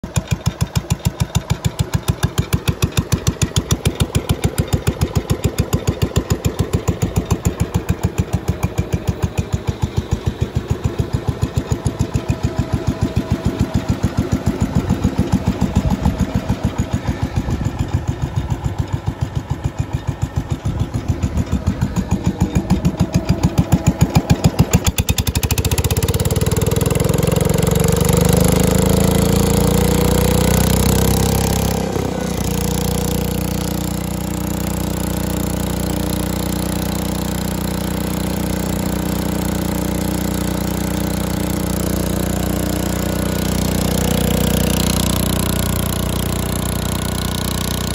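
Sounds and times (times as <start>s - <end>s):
tractor engine idling and revving: 0.0s - 47.9s.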